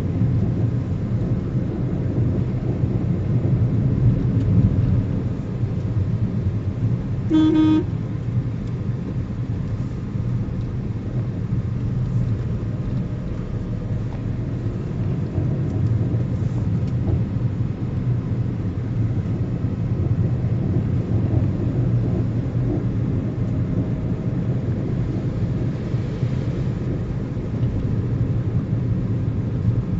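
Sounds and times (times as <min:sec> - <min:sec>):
car driving on road: 0:00.0 - 0:29.9.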